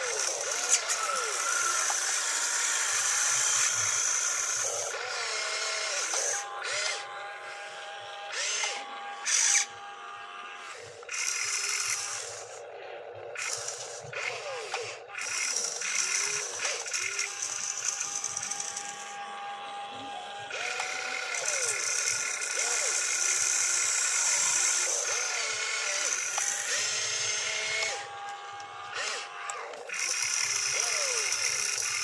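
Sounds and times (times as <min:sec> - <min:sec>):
electric motors whining: 0:00.0 - 0:32.0.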